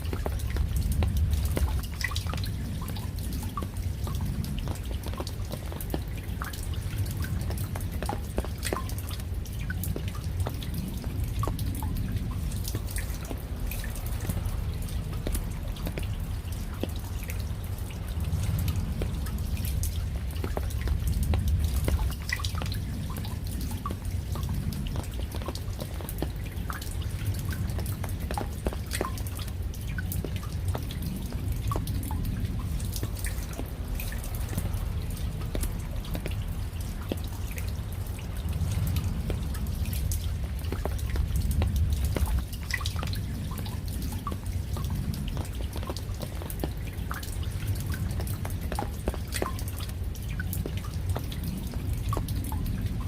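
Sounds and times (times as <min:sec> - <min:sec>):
falling rain rumble: 0:00.0 - 0:53.0
raindrops dripping: 0:00.0 - 0:53.0.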